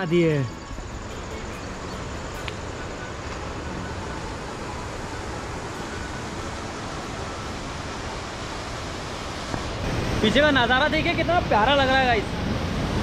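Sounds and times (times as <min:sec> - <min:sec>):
distant waterfall rushing: 0:00.0 - 0:13.0.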